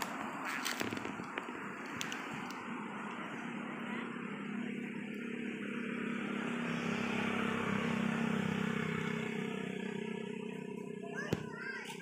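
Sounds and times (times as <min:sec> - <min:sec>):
vehicle engine passing by: 0:00.0 - 0:11.3.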